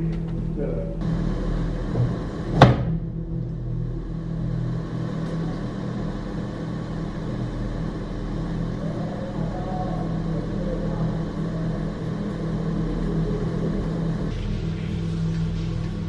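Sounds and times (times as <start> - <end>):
low multi-pitched hum: 0.0 - 16.0.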